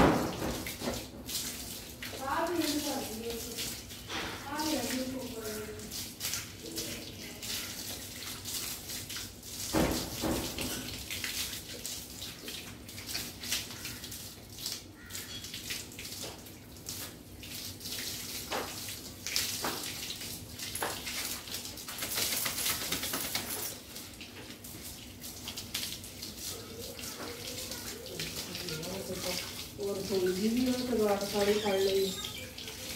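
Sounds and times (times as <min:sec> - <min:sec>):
water splashing from a hose: 0:00.0 - 0:32.9.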